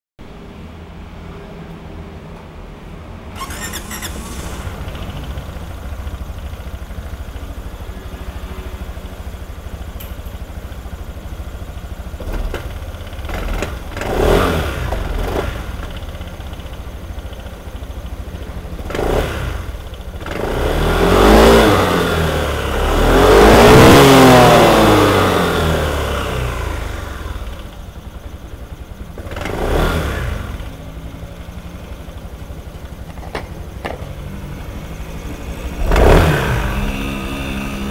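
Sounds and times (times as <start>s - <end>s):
vehicle engine idling and revving: 3.2s - 37.9s.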